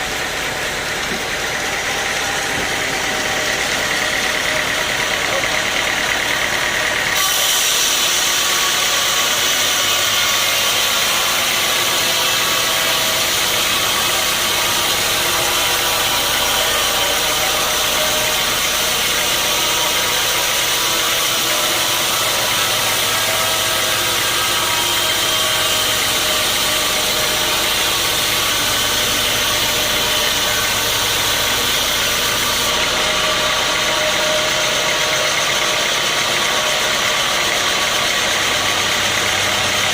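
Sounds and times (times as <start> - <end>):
saw blade hissing through log: 0.0 - 39.9
sawmill machinery droning: 0.0 - 39.9.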